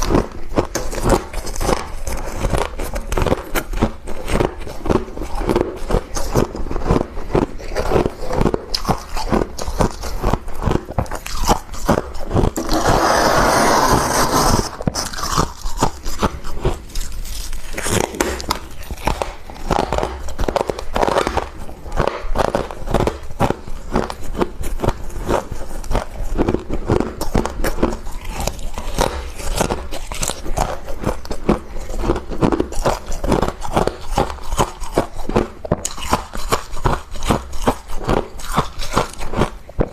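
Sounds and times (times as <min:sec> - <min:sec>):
biting and crunching frost: 0:00.0 - 0:39.9.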